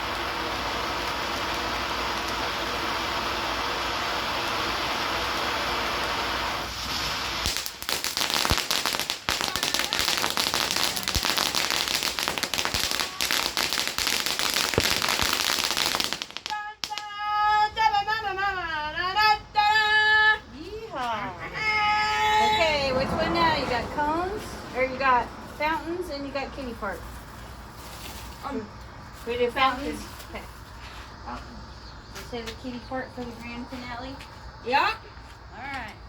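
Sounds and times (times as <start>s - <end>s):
firework hissing and crackling: 0.0s - 35.6s.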